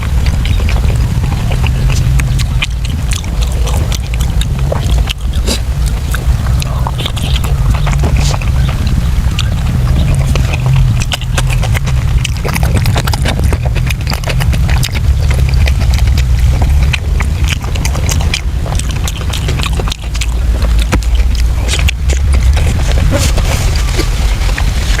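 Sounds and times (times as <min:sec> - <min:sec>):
chewing and lip-smacking: 0:00.0 - 0:25.0
low rumble: 0:00.0 - 0:25.0.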